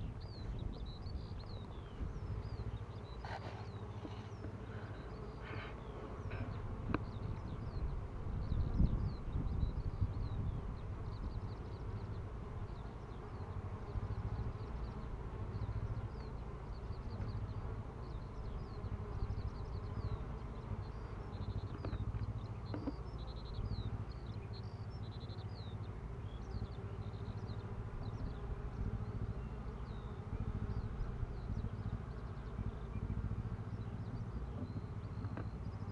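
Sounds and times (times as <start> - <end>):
bees buzzing: 0.0 - 35.9.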